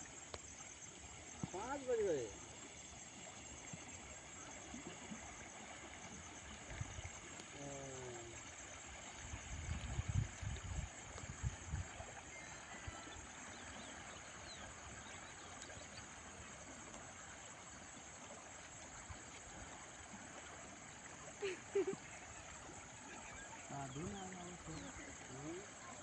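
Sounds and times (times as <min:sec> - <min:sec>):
insect chirring: 0:00.0 - 0:26.0.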